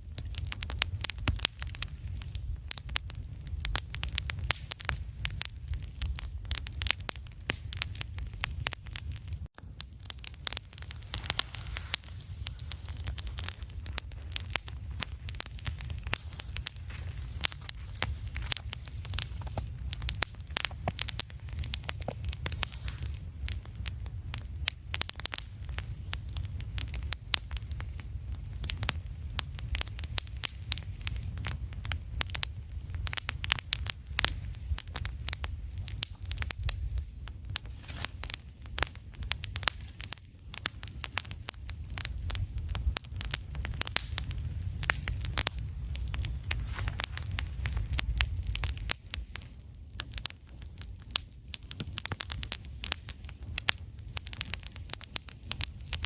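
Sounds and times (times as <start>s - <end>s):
steady low rumble: 0.0s - 50.8s
campfire crackling and popping: 0.0s - 56.0s.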